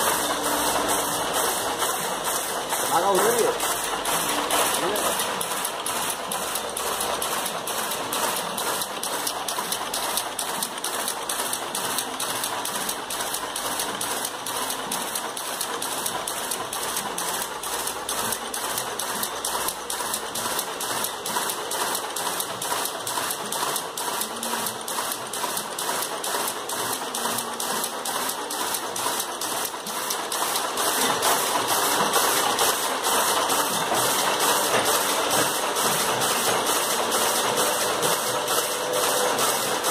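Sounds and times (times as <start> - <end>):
power loom clattering: 0.0 - 39.9.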